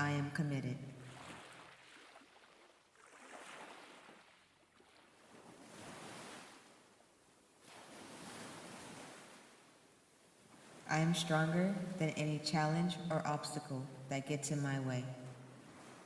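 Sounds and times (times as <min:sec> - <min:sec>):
faint ocean surf: 0:00.0 - 0:16.0.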